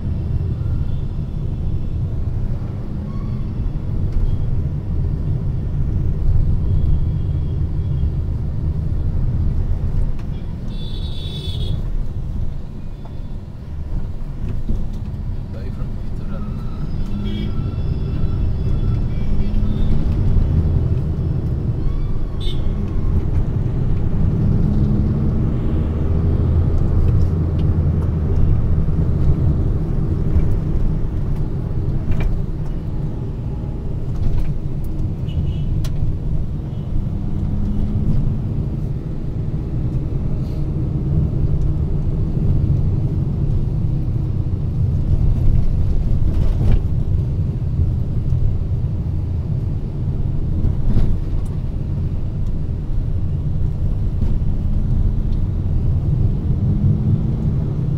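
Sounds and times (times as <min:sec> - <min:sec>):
vehicle engine and road rumble: 0:00.0 - 0:57.9.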